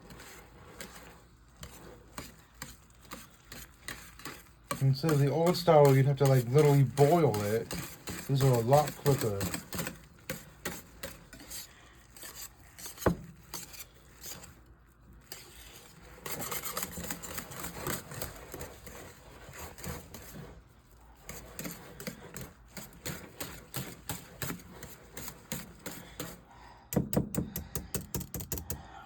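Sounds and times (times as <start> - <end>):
utensil scraping a pot: 0.0 - 28.9.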